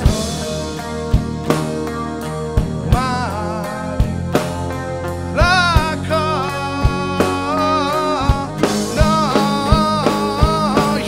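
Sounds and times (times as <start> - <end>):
bass: 0.0 - 11.0
drum kit: 0.0 - 11.0
electric guitar: 0.0 - 11.0.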